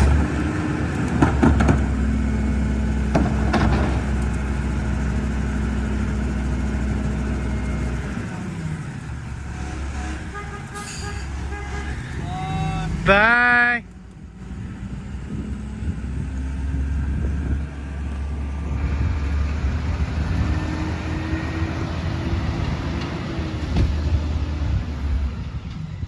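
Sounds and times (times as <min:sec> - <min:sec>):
garbage truck engine rumbling: 0:00.0 - 0:26.0.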